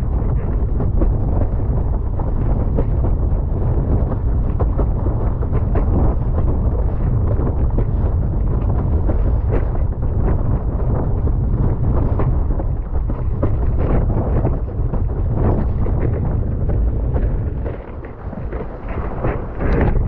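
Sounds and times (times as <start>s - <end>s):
water spray slapping board: 0.0s - 20.0s
wind buffeting microphone: 0.0s - 20.0s.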